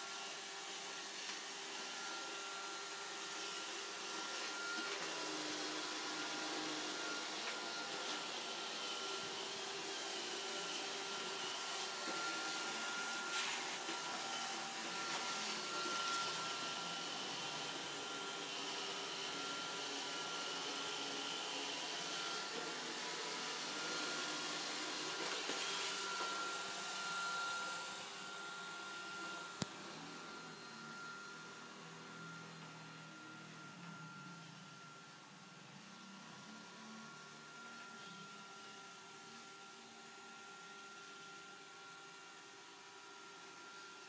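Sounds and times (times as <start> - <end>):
robot vacuum whirring: 0.0 - 41.4.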